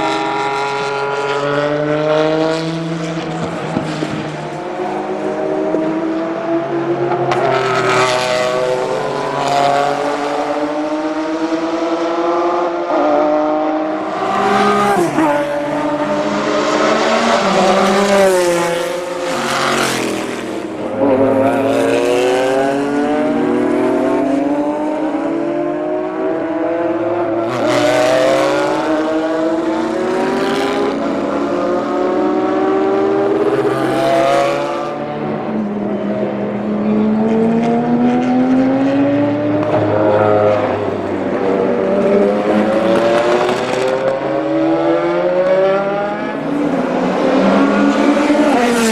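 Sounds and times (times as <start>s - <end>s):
racing engine at full throttle: 0.0s - 48.9s.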